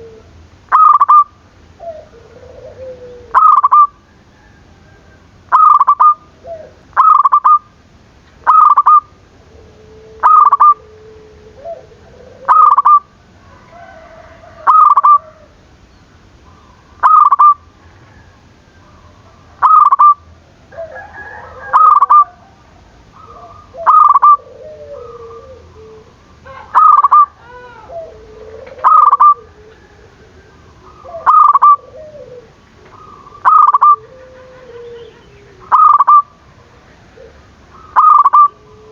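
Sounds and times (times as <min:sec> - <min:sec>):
dove cooing: 0:00.0 - 0:07.7, 0:08.4 - 0:15.6, 0:16.5 - 0:38.9.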